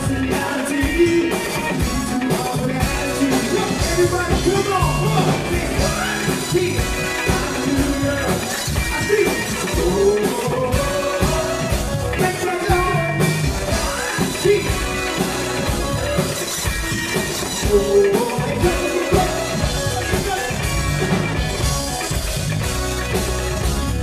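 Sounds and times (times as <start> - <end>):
men singing: 0.0 - 21.2
drum kit: 0.0 - 24.0
electric guitar: 0.0 - 24.0
keyboards: 0.0 - 24.0.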